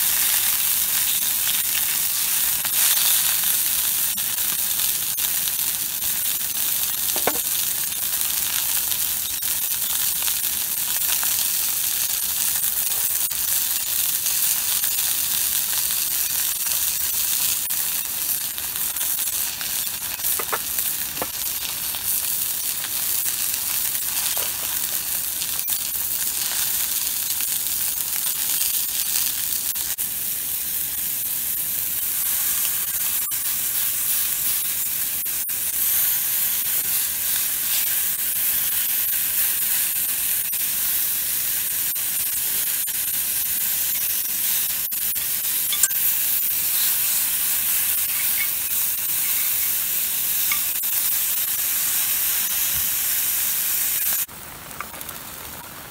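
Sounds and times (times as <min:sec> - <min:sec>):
steaks sizzling in a skillet: 0:00.0 - 0:55.9.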